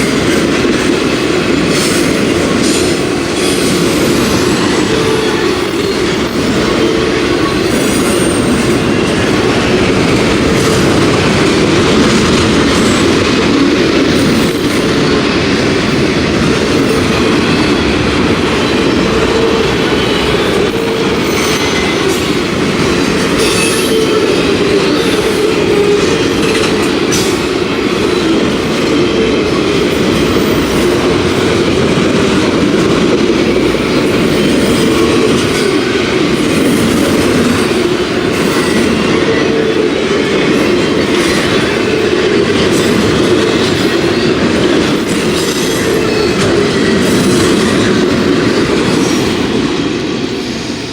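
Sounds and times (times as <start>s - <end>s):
wheels clacking over rail joints: 0.0s - 50.4s
freight train rolling past: 0.0s - 50.9s.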